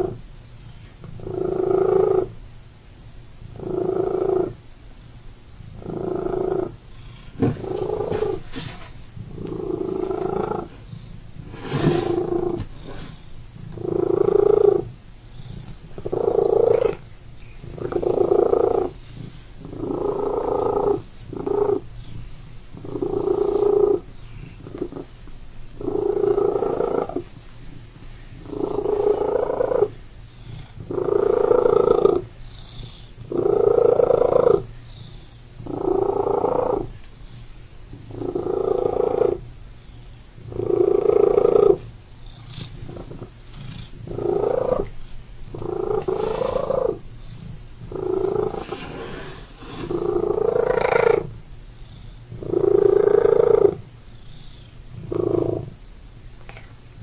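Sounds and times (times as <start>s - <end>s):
cat purring: 0.0s - 0.2s, 1.0s - 2.4s, 3.4s - 4.6s, 5.6s - 55.8s.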